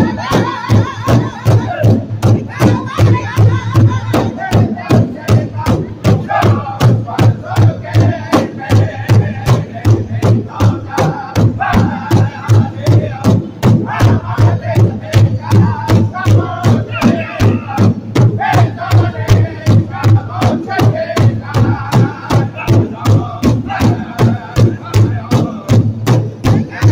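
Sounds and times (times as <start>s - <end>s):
large drum beating: 0.0s - 26.9s
men singing together: 0.0s - 26.9s.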